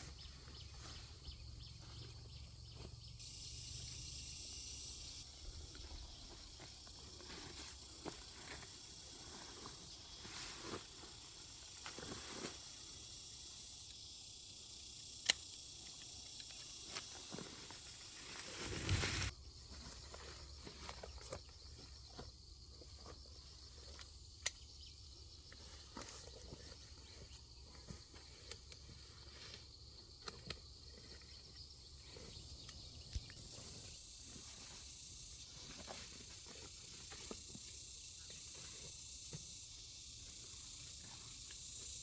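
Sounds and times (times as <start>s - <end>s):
high insect hiss: 0.0s - 42.0s.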